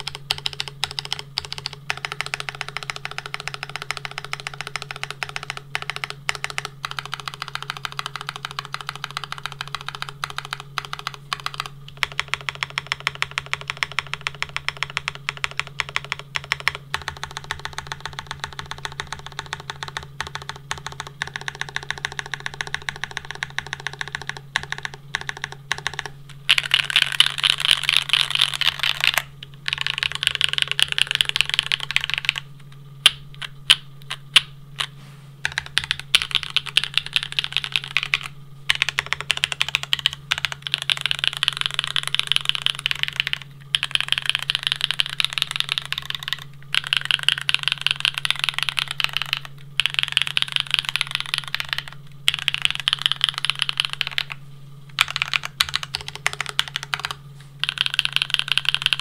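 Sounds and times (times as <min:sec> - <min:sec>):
mechanical keyboard typing: 0:00.0 - 0:59.0.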